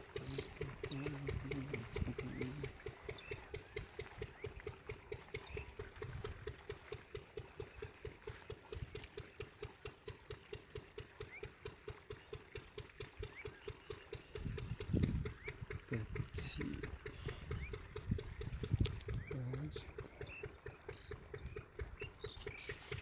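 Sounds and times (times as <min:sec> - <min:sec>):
diesel engine chugging: 0:00.0 - 0:23.0.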